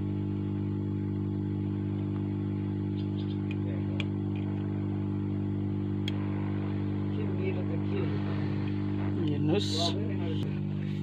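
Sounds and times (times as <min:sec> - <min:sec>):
hot-air gun fan humming: 0:00.0 - 0:11.0.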